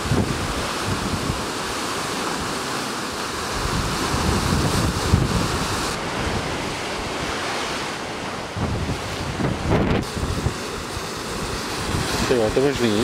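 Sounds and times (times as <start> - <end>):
wind buffeting microphone: 0.0 - 2.7, 3.4 - 13.0
ocean surf on rocky shore: 0.0 - 13.0.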